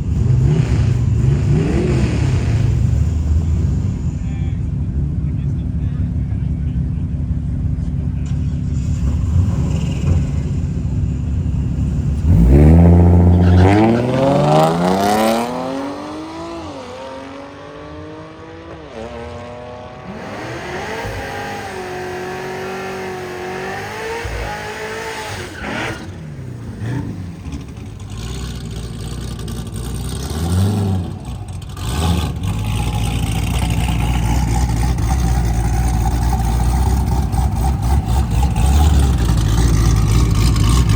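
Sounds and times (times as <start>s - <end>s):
car engine accelerating through gears: 0.0s - 5.2s, 7.3s - 40.9s
engine revving and rumbling: 0.0s - 40.9s.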